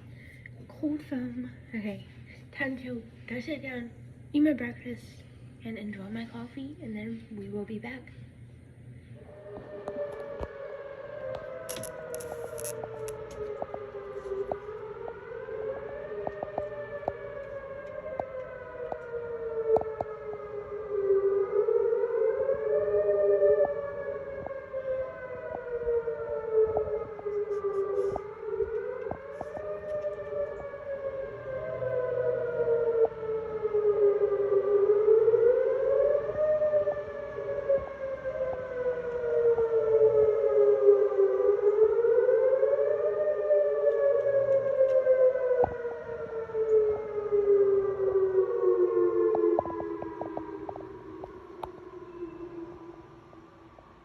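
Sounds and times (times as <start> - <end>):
tornado siren wailing: 9.2 - 54.0.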